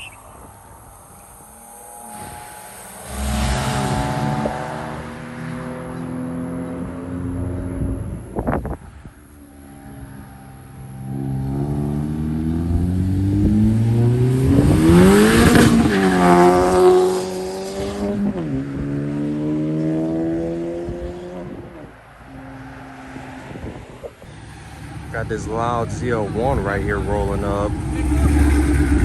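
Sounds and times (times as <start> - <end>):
car accelerating past: 0.0 - 29.0.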